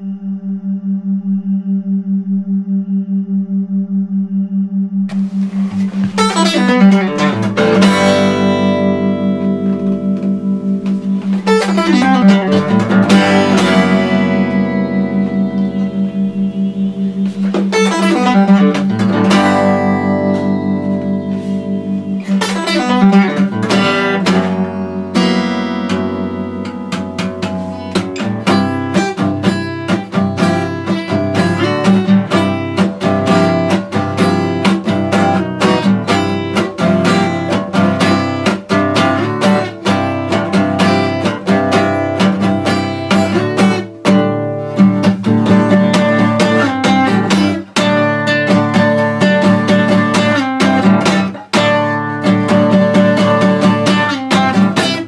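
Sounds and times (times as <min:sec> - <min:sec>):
acoustic guitar strumming: 0:05.1 - 0:55.0.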